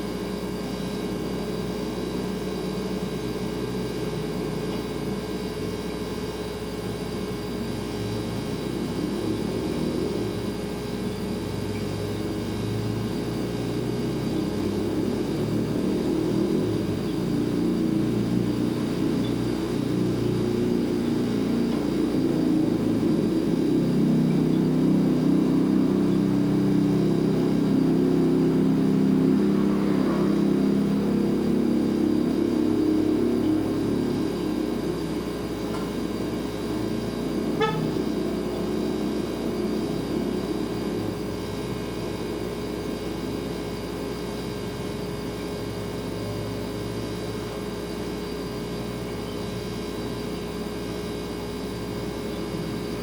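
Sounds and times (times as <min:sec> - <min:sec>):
refrigerator compressor humming: 0:00.0 - 0:53.0.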